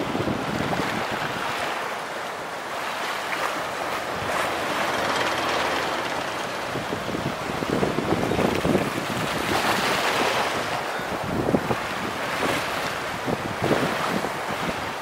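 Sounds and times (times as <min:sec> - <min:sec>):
waves breaking on rocky shore: 0:00.0 - 0:15.0
wind gusting on microphone: 0:00.0 - 0:15.0.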